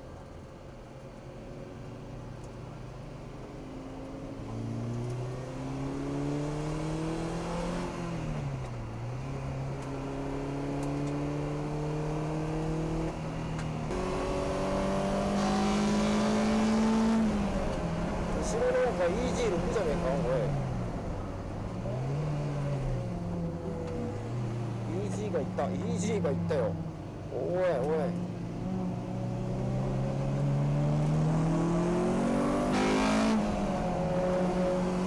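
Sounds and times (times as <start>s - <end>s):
car engine accelerating hard: 4.2s - 8.7s, 9.4s - 35.0s.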